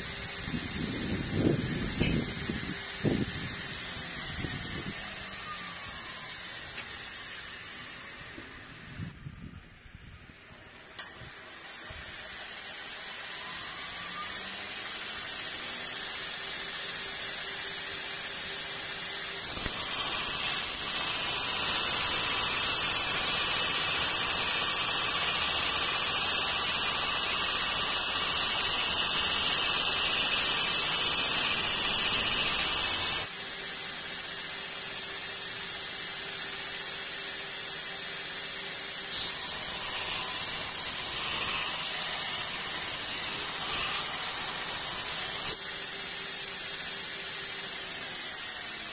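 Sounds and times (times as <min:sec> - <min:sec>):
belt grinder running: 0:00.0 - 0:08.6, 0:11.0 - 0:48.9
steel grinding on belt: 0:00.0 - 0:09.1, 0:10.2 - 0:33.4, 0:34.4 - 0:48.9.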